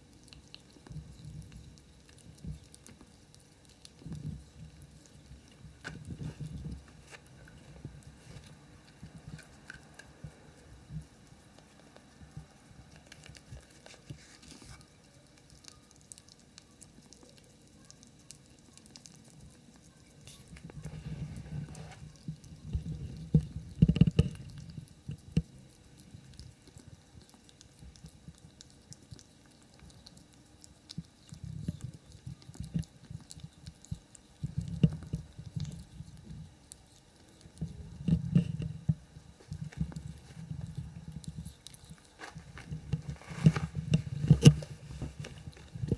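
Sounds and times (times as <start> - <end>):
ferrets licking and chewing: 0.0 - 45.9.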